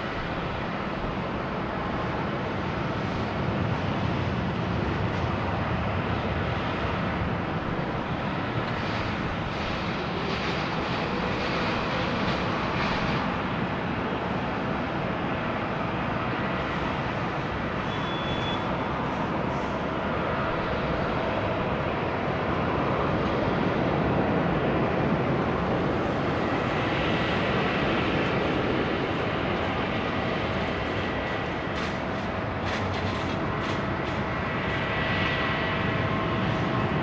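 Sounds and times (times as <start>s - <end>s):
distant jet engine rumble: 0.0s - 37.0s.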